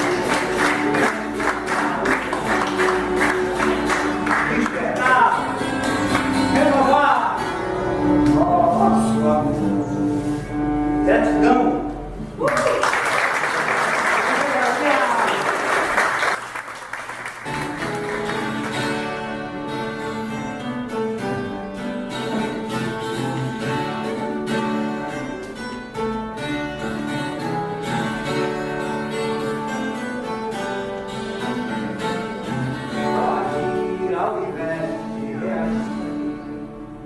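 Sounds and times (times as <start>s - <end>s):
plucked guitar: 0.0s - 12.4s, 17.4s - 37.0s.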